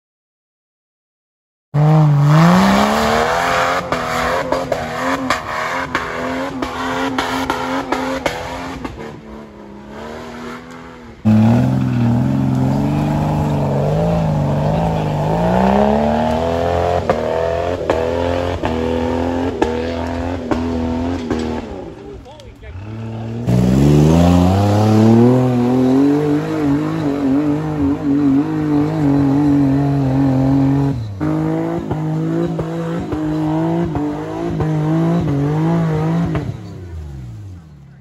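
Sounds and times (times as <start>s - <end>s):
off-road vehicle engine revving: 1.8s - 38.0s.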